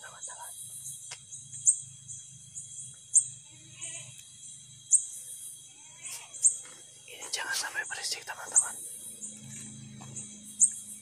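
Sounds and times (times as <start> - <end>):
insects buzzing: 0.0 - 11.0
sharp high insect chirp: 0.0 - 11.0
thin steady insect whines: 0.0 - 11.0.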